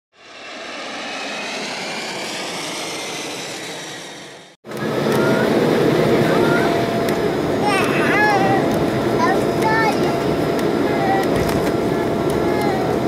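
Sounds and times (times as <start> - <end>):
jet aircraft noise: 0.1 - 13.0
steady whine: 0.1 - 13.0
engine noise inside aircraft cabin: 0.2 - 13.0.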